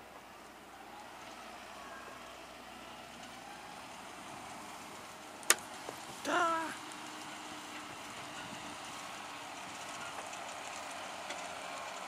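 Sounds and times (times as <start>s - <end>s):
distant tractor engine: 0.2s - 12.0s.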